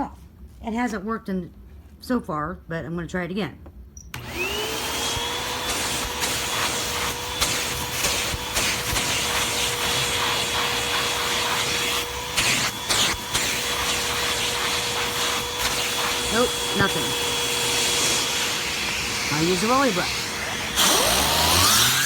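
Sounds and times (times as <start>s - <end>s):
vacuum cleaner running: 4.2s - 22.0s.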